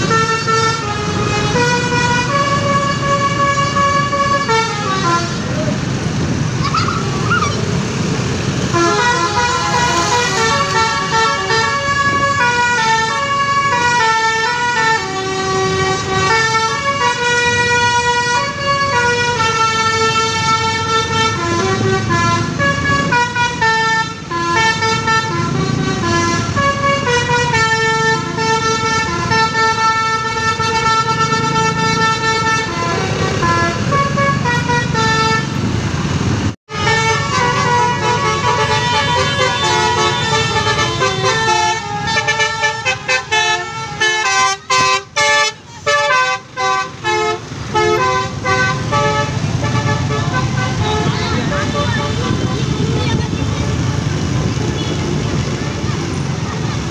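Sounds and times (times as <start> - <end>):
bus musical horn playing: 0.0 - 5.8, 8.5 - 35.7, 36.7 - 53.0
low rumble of traffic: 0.0 - 56.9.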